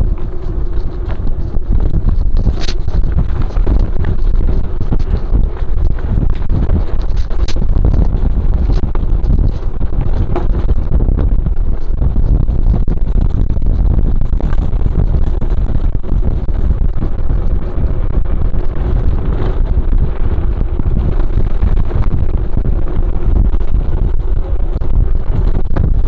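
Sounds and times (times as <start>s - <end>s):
bike clattering over dirt trail: 0.0s - 26.0s
wind buffeting microphone: 0.0s - 26.0s.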